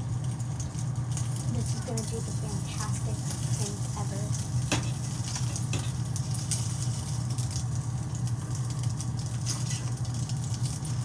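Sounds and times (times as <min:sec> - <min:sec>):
crackles and pops: 0:00.0 - 0:11.0
food frying in a pan: 0:00.0 - 0:11.0
steady low hum: 0:00.0 - 0:11.0.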